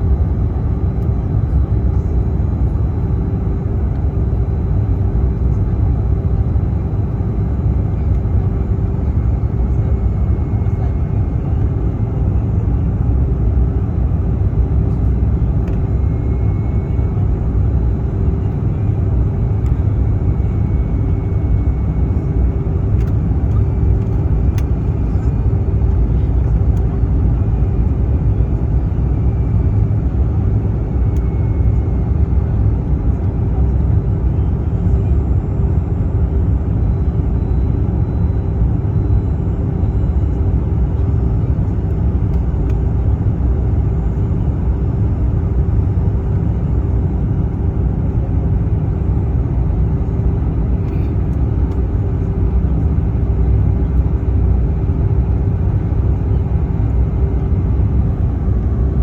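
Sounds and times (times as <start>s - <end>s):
constant hum: 0.0s - 59.0s
engine and airflow rumble: 0.0s - 59.0s.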